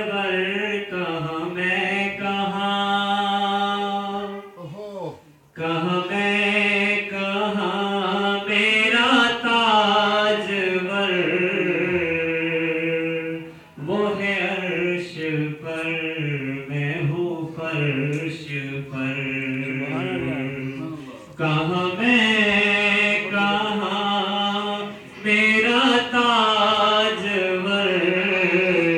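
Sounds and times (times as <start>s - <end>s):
man singing unaccompanied: 0.0s - 4.5s, 5.5s - 28.9s.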